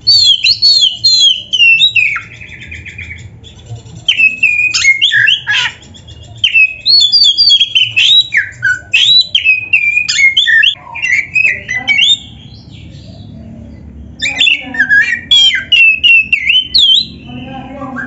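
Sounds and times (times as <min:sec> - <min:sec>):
bird singing whistled song: 0:00.0 - 0:13.2, 0:14.2 - 0:18.0.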